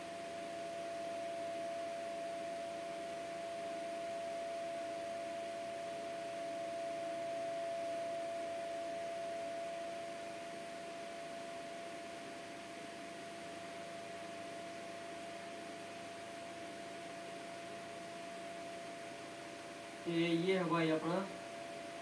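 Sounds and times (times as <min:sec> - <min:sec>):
faint background hiss: 0:00.0 - 0:22.0
steady whine: 0:00.0 - 0:22.0.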